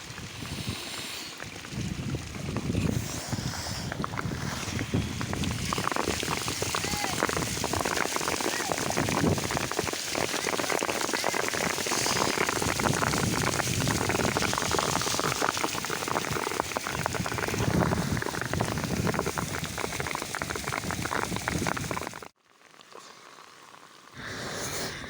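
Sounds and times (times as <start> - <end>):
heavy rain on cardboard: 0.0 - 20.2.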